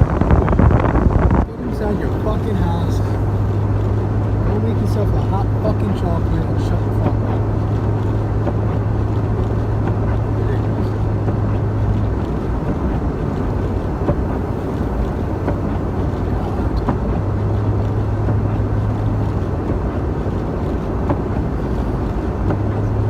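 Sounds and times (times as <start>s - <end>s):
engine and road noise in car: 0.0s - 23.0s.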